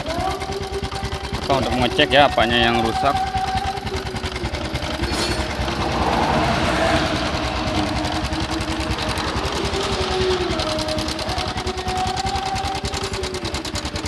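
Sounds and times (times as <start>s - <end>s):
motorcycle engine rough clatter: 0.0s - 14.0s.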